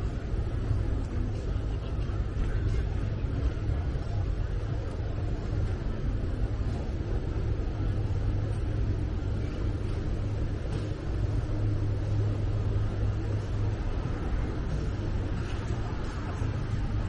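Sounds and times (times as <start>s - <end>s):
low urban rumble: 0.0s - 17.0s.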